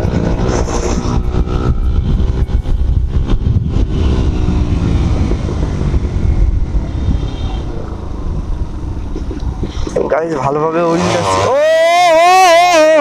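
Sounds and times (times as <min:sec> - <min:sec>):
motorcycle engine running: 0:00.0 - 0:10.8
wind buffeting on microphone: 0:00.0 - 0:10.9.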